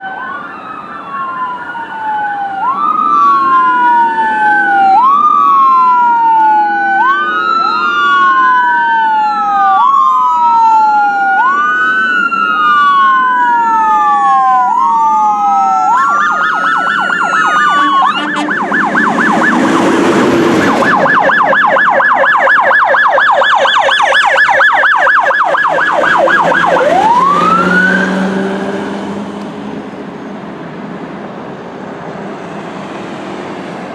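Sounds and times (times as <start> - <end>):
siren fast yelp: 0.0 - 28.5
fire truck sirens wailing: 0.0 - 33.9
trucks rushing past: 0.0 - 33.9.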